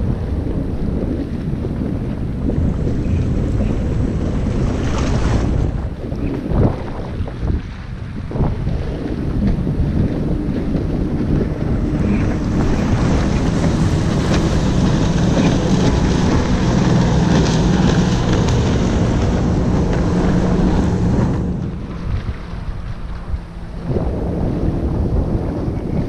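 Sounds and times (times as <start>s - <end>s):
motorboat engines droning: 0.0s - 26.0s
wind buffeting microphone: 0.0s - 26.0s.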